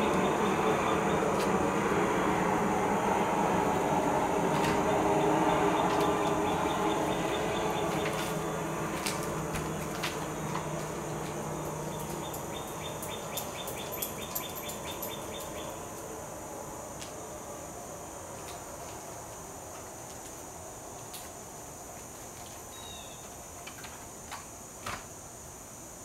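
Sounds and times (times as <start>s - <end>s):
distant vehicle rumble: 0.0s - 24.3s.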